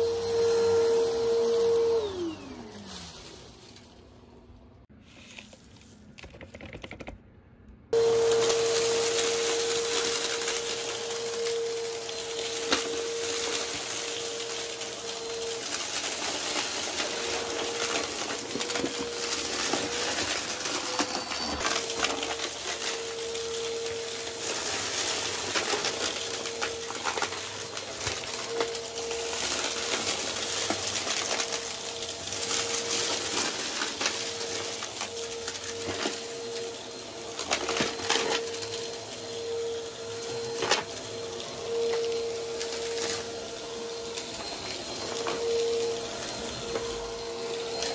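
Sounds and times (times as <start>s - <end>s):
vacuum cleaner motor whine: 0.0s - 3.9s, 7.9s - 47.9s.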